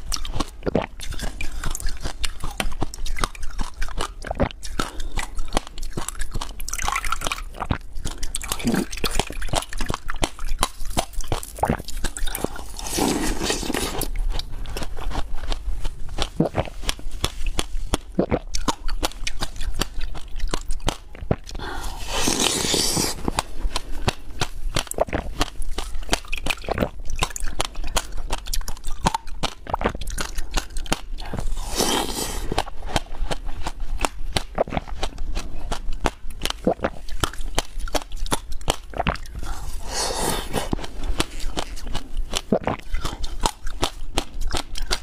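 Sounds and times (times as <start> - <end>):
chewing and crunching ice: 0.0 - 45.0.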